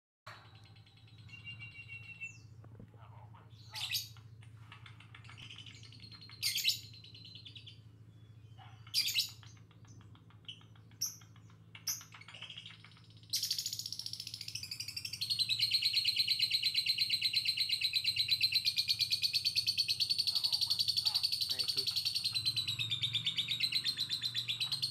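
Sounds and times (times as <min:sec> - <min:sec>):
lovebird chirping and trilling: 0:00.3 - 0:02.6, 0:03.5 - 0:24.9.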